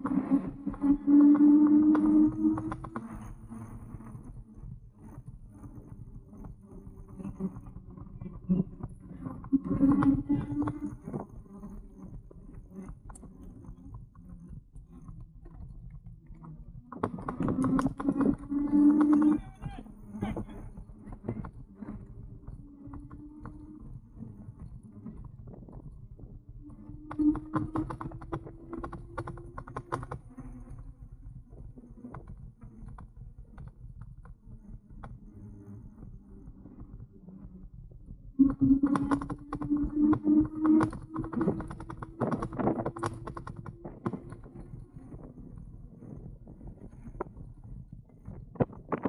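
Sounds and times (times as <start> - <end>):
e-bike clicking and rattling: 0.0 - 49.0.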